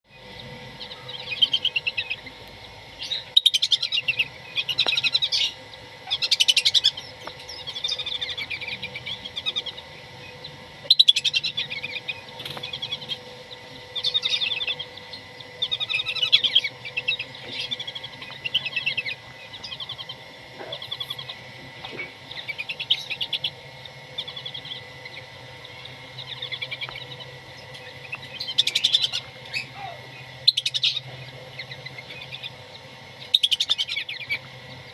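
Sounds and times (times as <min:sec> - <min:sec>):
faint steady hum: 0:00.1 - 0:34.9
ducks trilling chirps: 0:00.2 - 0:34.9.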